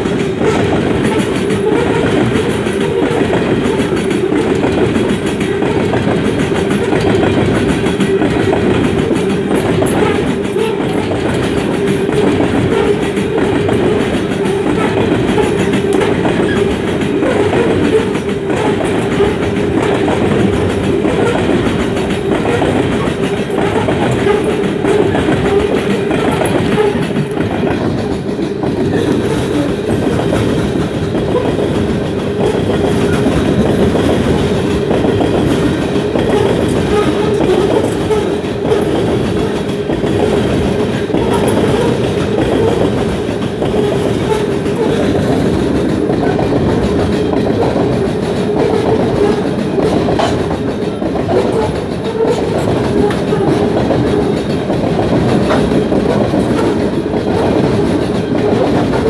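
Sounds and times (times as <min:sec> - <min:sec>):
train rumbling past: 0:00.0 - 0:59.0
wheels clickety-clack: 0:00.0 - 0:59.0.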